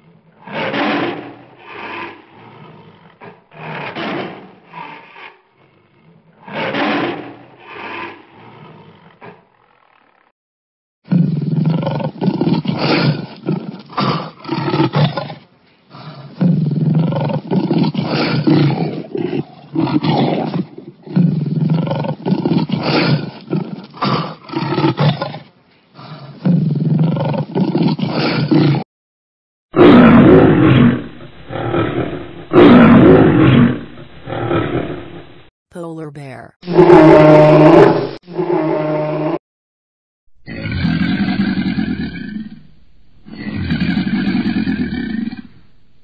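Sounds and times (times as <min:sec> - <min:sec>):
big cat roaring and growling: 0:00.0 - 0:10.3, 0:11.1 - 0:28.8, 0:29.8 - 0:35.2, 0:36.7 - 0:39.4, 0:40.4 - 0:45.6.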